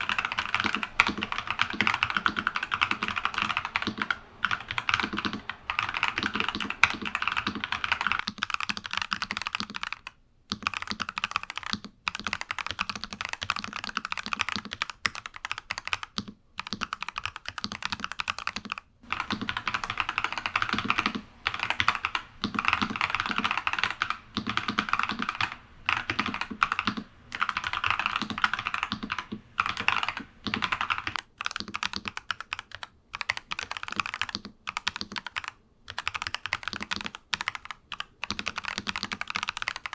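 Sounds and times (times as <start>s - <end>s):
mechanical keyboard typing clacks: 0.0s - 39.9s.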